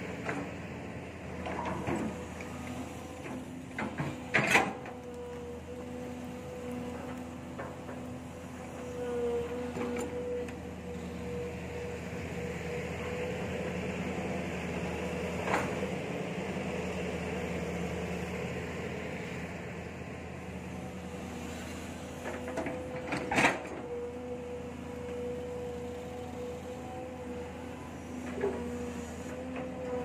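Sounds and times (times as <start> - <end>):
excavator engine humming: 0.0 - 30.0.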